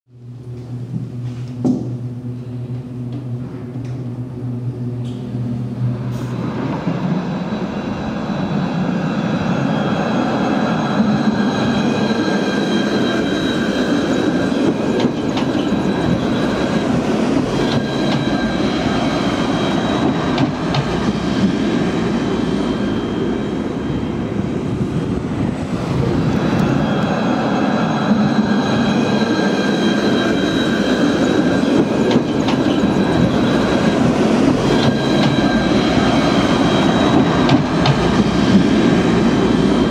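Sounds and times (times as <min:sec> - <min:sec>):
tram wheels rumbling on rails: 0:00.2 - 0:39.9
high whining tones: 0:04.5 - 0:39.9.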